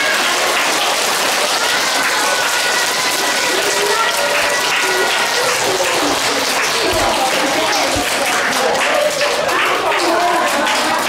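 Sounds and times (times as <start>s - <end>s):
children clapping: 0.0s - 11.0s
voices calling out: 0.0s - 11.0s.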